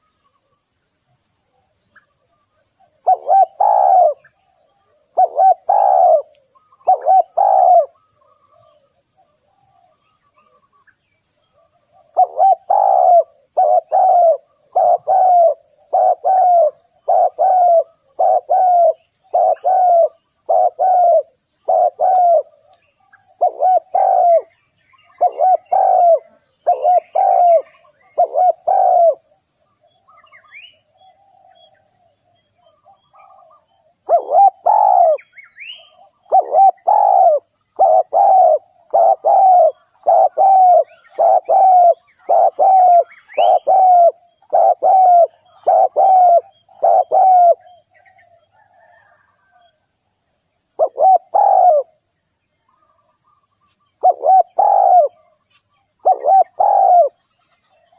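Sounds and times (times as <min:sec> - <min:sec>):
dove cooing: 0:02.1 - 0:10.7, 0:11.5 - 0:29.4, 0:30.1 - 0:49.8, 0:50.8 - 0:52.0, 0:54.0 - 0:55.4, 0:56.0 - 0:57.2.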